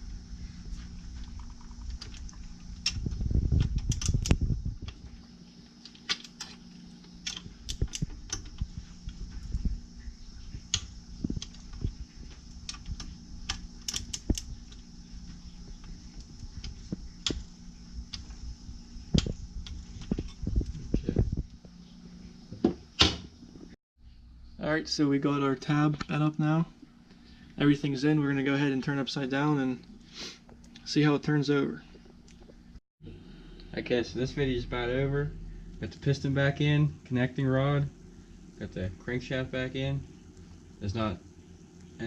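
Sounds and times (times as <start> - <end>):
rumble of handling: 0.0 - 23.8, 31.8 - 42.0
faint steady hum: 0.0 - 42.0.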